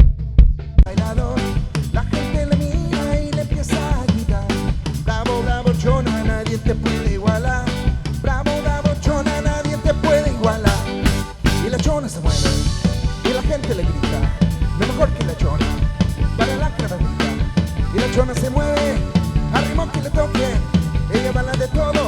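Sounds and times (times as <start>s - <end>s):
steady drum beat: 0.0s - 22.0s
live band playing cumbia: 1.0s - 22.0s.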